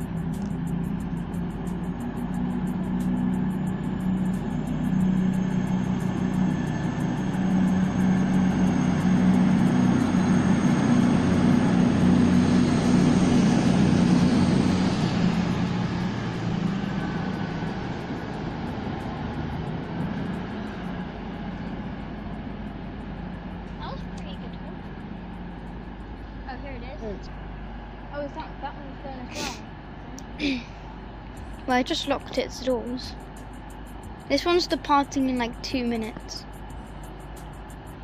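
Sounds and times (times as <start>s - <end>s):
diesel train engine drone: 0.0s - 38.0s
thin high whine: 0.0s - 38.0s.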